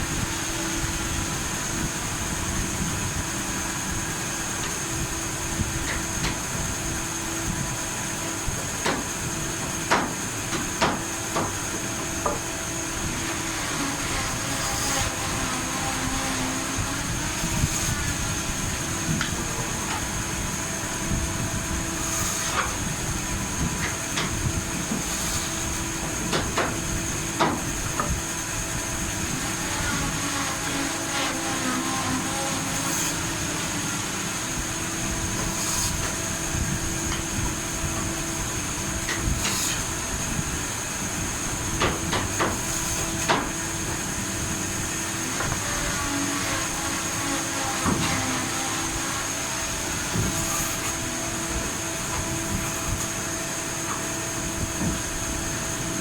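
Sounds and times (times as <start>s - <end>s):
workshop machine whine and hum: 0.0s - 56.0s.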